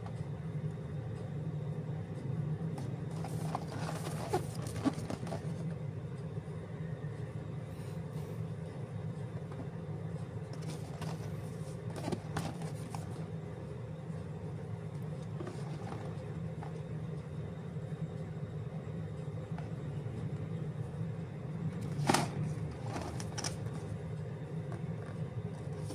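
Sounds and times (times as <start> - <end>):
low background hum: 0.0 - 25.9.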